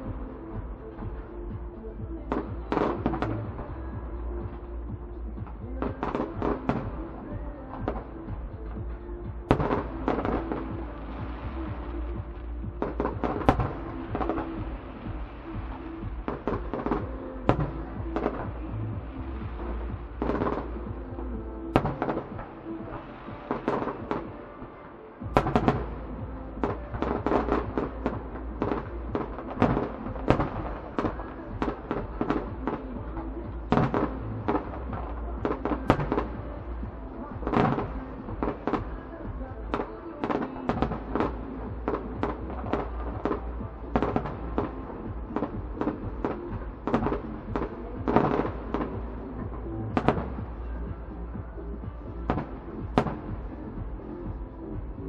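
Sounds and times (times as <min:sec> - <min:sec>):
fireworks bangs: 0:00.0 - 0:55.0
music playing: 0:00.0 - 0:55.0.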